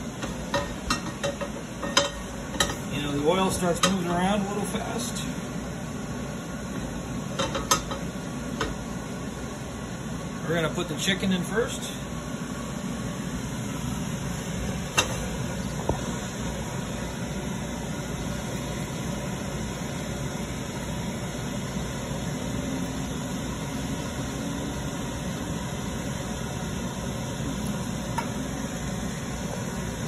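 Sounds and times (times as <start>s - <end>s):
gas range and ventilation hum: 0.0s - 30.0s.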